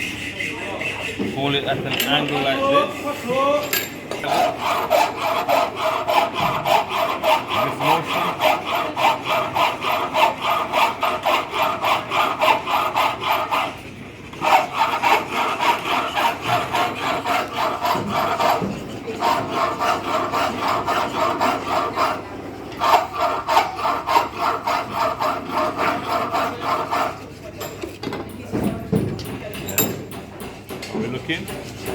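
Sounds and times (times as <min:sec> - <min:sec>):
hand file scraping steel: 0:00.0 - 0:28.4, 0:29.2 - 0:31.9.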